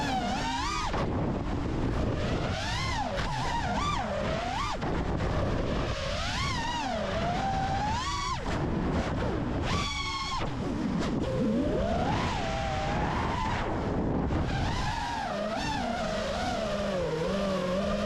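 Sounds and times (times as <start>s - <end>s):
drone motors whining: 0.0s - 18.0s
rush of prop wash and wind: 0.0s - 18.0s.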